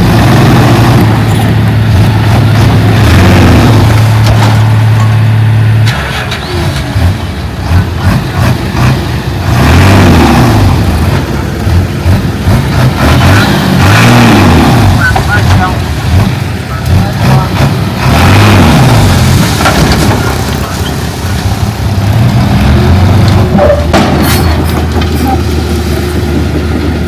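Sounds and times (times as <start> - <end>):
diesel engine revving: 0.0 - 27.0.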